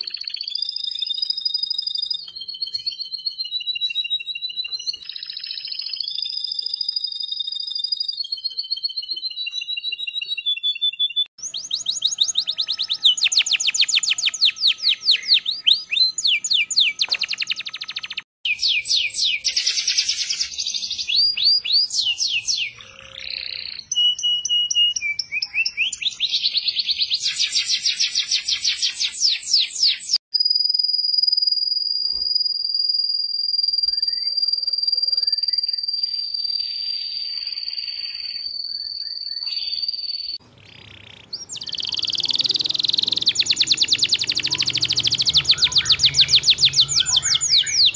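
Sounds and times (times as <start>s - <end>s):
canaries singing trills: 0.0s - 30.1s, 36.4s - 47.9s.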